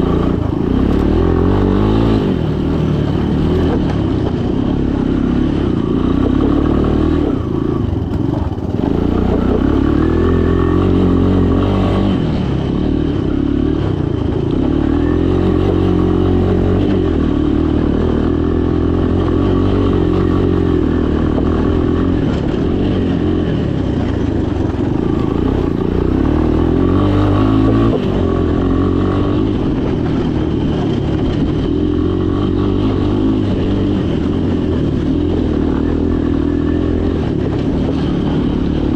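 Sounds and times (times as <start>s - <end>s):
three-wheeler engine revving: 0.0s - 38.9s.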